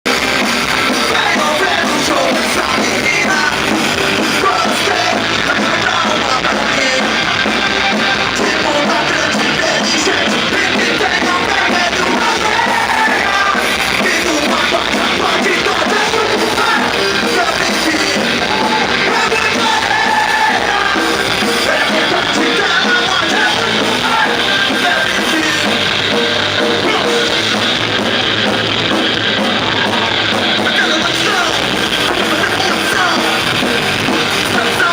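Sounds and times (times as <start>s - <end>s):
drums: 0.0s - 34.9s
rock band playing: 0.0s - 34.9s
person singing: 0.7s - 28.4s, 29.3s - 34.9s.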